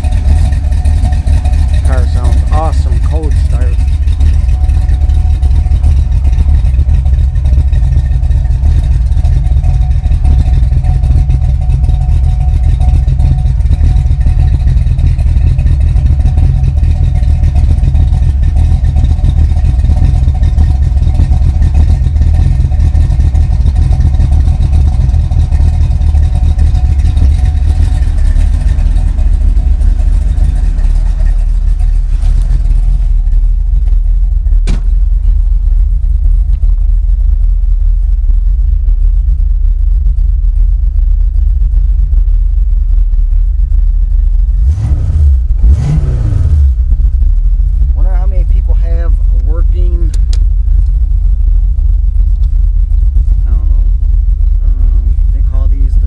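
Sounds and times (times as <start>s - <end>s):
car engine idling loudly: 0.0s - 56.0s.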